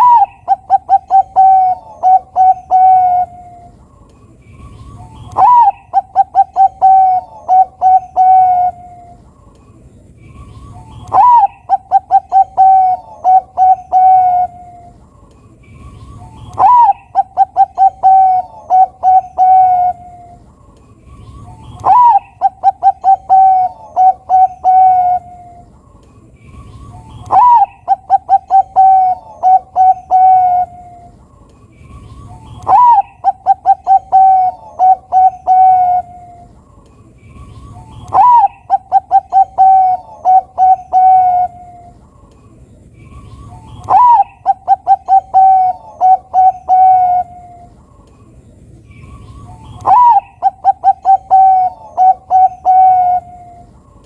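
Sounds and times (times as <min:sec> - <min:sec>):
dove cooing: 0:00.0 - 0:03.9, 0:04.8 - 0:09.3, 0:10.6 - 0:15.0, 0:15.8 - 0:20.5, 0:21.2 - 0:25.7, 0:26.6 - 0:31.2, 0:32.2 - 0:36.6, 0:37.5 - 0:42.0, 0:43.2 - 0:47.8, 0:49.3 - 0:54.0.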